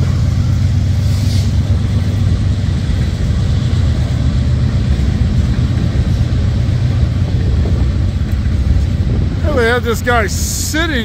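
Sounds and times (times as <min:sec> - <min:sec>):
loud low rumble: 0:00.0 - 0:11.0.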